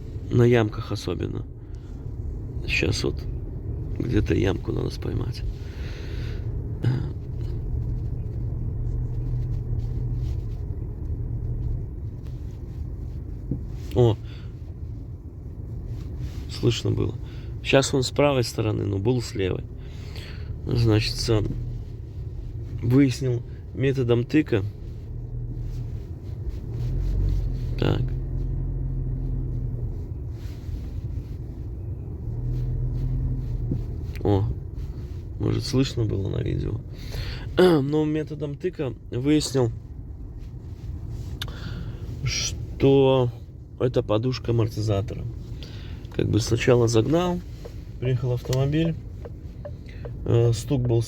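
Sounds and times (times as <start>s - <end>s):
road and tyre rumble: 0.0s - 51.0s.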